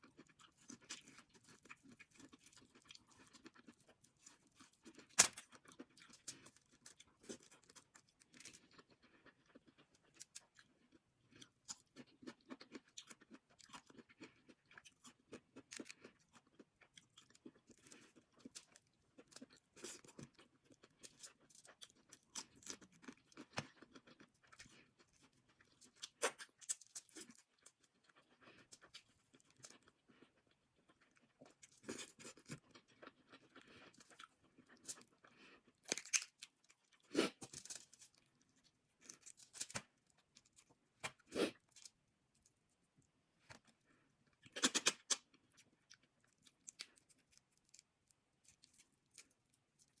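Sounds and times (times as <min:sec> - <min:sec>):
person chewing and crunching: 0:00.0 - 0:42.6, 0:43.5 - 0:50.0.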